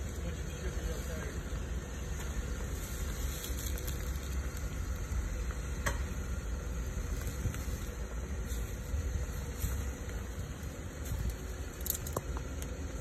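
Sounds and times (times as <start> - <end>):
car engine low rumble: 0.0 - 13.0
tyres on dirt and leaves: 0.0 - 13.0.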